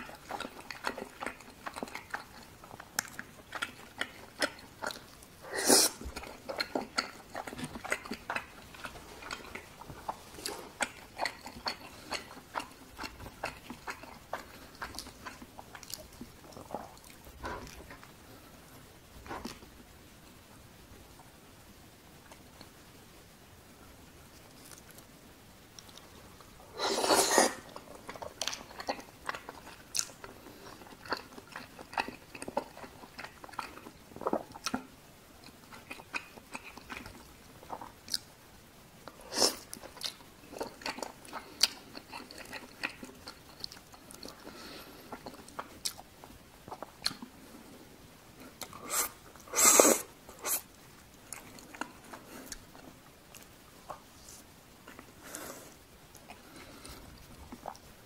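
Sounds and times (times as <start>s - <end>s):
chewing and mouth sounds: 0.0s - 18.6s, 25.7s - 38.3s, 39.0s - 47.6s, 48.4s - 58.0s.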